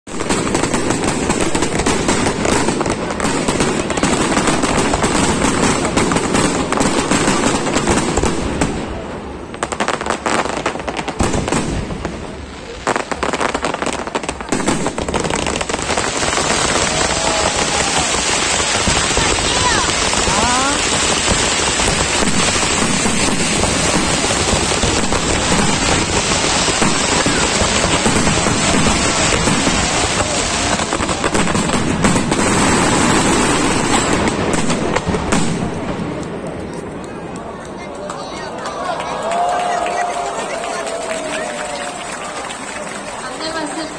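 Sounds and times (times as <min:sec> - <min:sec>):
fireworks bangs and crackling: 0:00.1 - 0:43.9.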